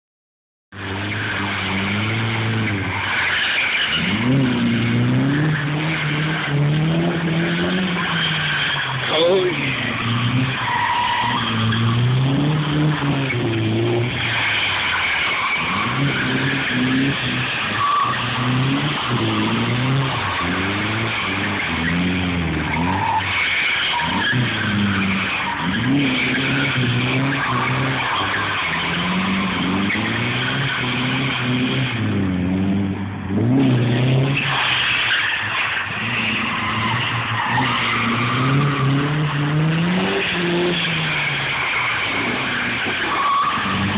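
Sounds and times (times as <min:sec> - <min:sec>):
car engine revving: 0:00.7 - 0:43.9
tyres squealing on tarmac: 0:00.8 - 0:32.2, 0:33.6 - 0:43.9.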